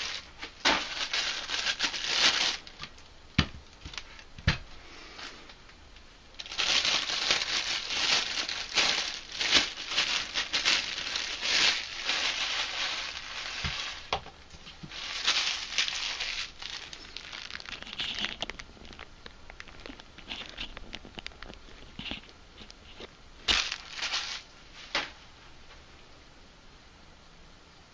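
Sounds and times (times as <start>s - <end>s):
plastic packaging crinkling: 0.0s - 3.1s, 3.7s - 25.1s.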